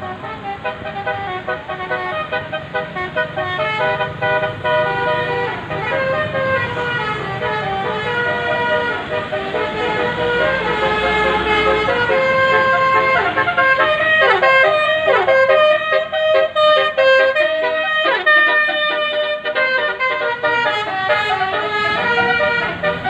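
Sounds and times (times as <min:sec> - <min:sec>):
multi-tone bus horn melody: 0:00.0 - 0:23.0.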